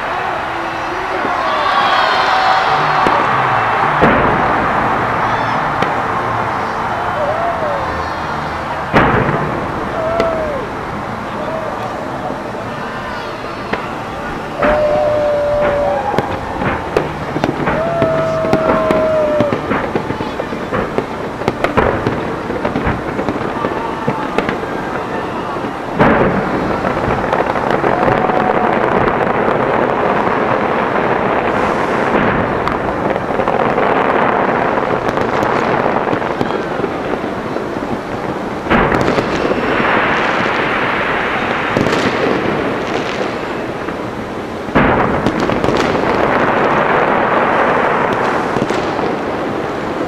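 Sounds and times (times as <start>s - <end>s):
fireworks banging and crackling: 0.0s - 50.0s.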